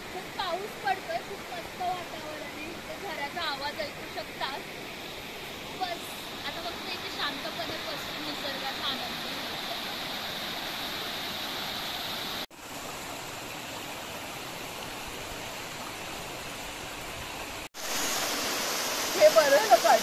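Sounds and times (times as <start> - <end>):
water rushing down waterfall: 0.0 - 20.0.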